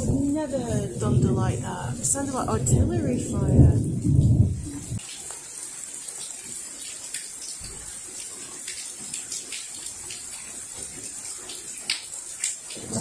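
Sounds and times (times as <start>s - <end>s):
rain falling: 0.0s - 13.0s
sharp drips and taps: 0.0s - 13.0s.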